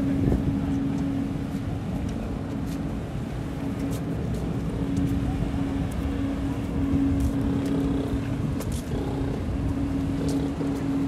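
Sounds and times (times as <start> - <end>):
city traffic rumble: 0.0 - 11.0
engine humming: 0.0 - 11.0.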